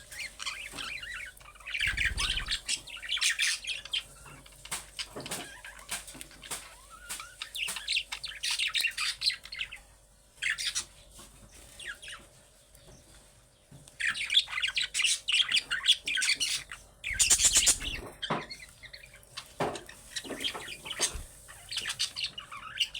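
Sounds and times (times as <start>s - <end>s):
budgerigars chattering: 0.0s - 9.8s, 14.0s - 22.9s.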